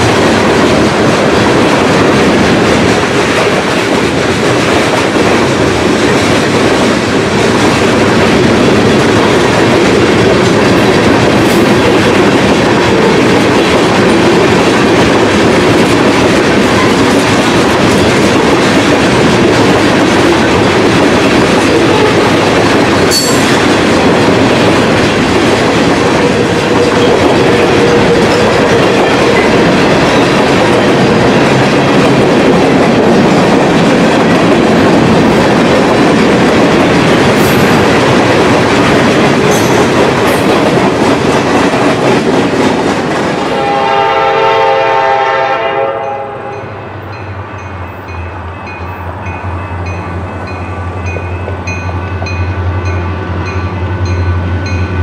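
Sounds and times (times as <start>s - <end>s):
clickety-clack over rail joints: 0.0s - 55.0s
train wheels rumbling on rails: 0.0s - 55.0s.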